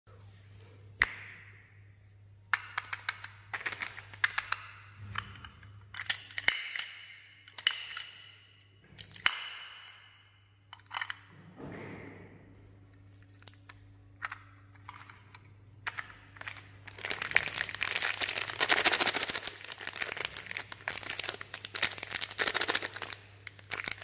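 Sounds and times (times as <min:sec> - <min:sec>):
plastic toys clicking and tapping: 0:02.5 - 0:11.3, 0:13.1 - 0:24.0.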